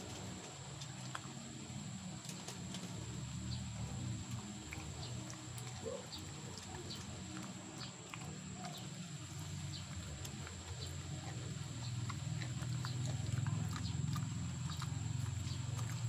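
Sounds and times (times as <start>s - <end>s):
dog chewing and licking: 0.0s - 16.0s
low steady hum: 0.0s - 16.0s.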